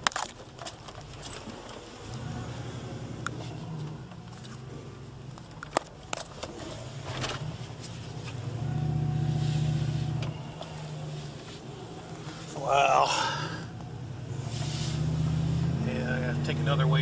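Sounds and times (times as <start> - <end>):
pickup engine running: 0.0 - 17.0.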